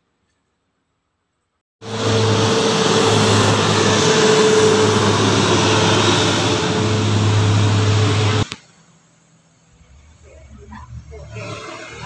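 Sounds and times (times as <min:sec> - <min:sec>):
bus engine drone: 0:01.8 - 0:12.0
loud road noise: 0:01.8 - 0:12.0
constant whine: 0:01.9 - 0:12.0.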